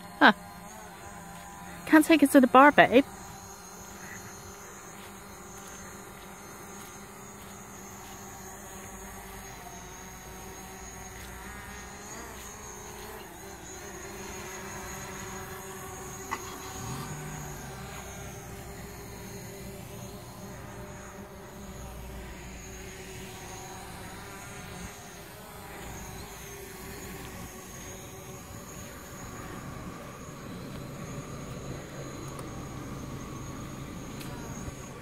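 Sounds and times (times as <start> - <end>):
drone propellers buzzing whine: 0.0 - 35.0.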